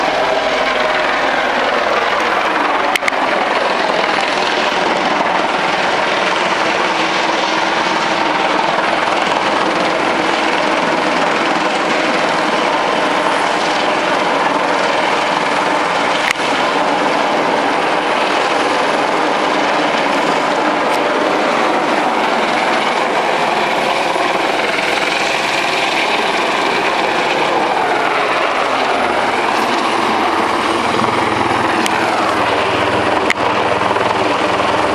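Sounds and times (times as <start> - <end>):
helicopter hovering: 0.0 - 34.9.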